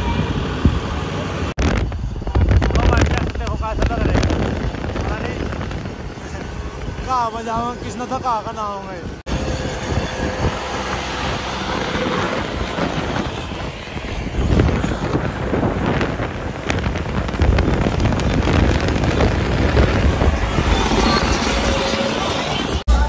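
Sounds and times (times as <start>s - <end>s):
wind buffeting microphone: 0.0s - 22.9s
vehicle rumble: 0.0s - 23.0s.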